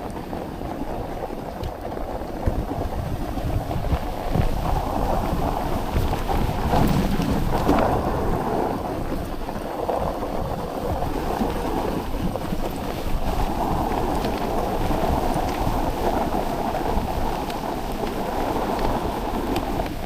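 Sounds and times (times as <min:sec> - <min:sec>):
dog sled rushing over snow: 0:00.0 - 0:20.0
wind buffeting microphone: 0:00.0 - 0:20.0.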